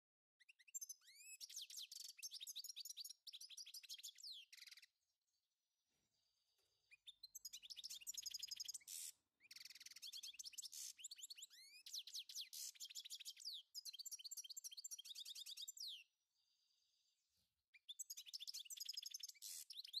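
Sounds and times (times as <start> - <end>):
songbird chirps and trills: 0.4 - 20.0.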